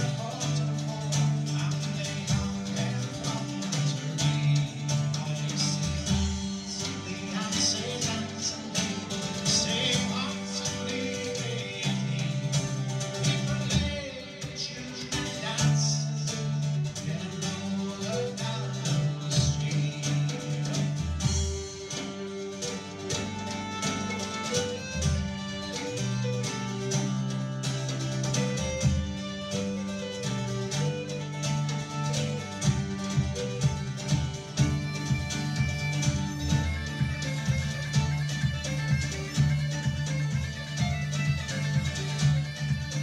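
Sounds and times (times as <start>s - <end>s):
bouzouki: 0.0s - 43.0s
drum kit: 0.0s - 43.0s
fiddle: 0.0s - 43.0s
folk band playing: 0.0s - 43.0s.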